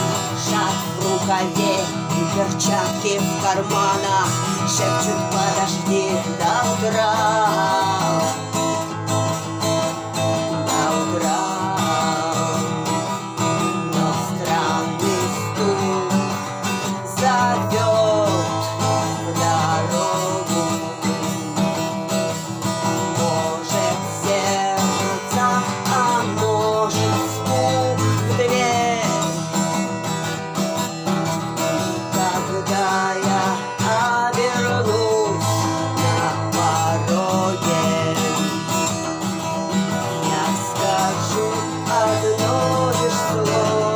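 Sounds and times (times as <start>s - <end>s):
acoustic guitar strumming: 0.0s - 43.9s
person singing: 0.0s - 43.9s.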